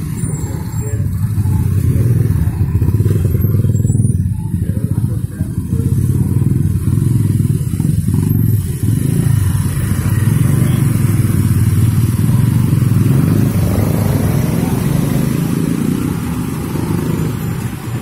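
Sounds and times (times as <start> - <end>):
motorcycle and scooter engines rumbling: 0.0 - 18.0.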